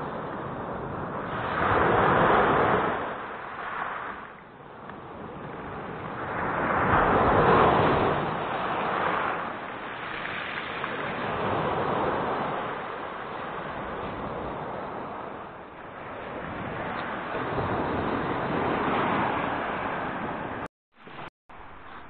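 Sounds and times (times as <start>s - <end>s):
waves breaking and washing in: 0.0s - 22.0s.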